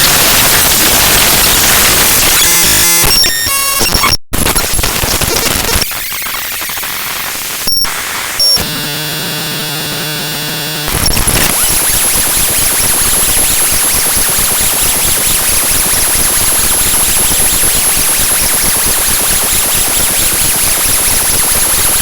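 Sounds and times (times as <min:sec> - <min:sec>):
harsh static noise: 0:00.0 - 0:22.0.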